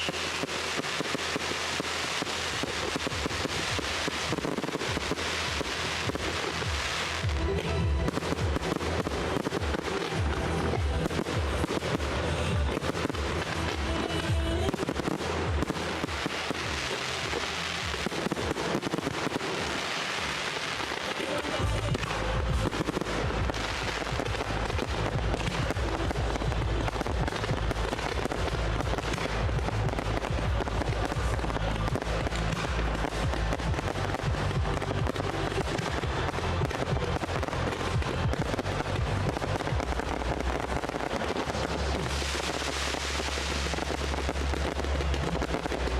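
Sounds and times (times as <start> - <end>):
fireworks bangs and crackling: 0.0 - 45.9
music with heavy bass: 0.0 - 45.9.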